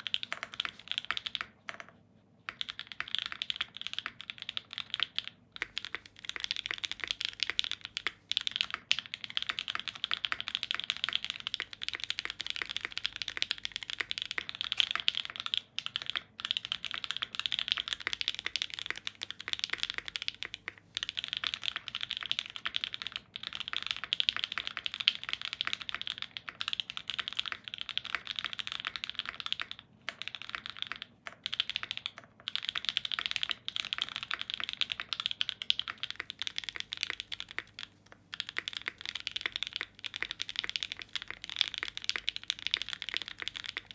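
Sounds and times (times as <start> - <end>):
fast mechanical keyboard typing: 0.0 - 43.9.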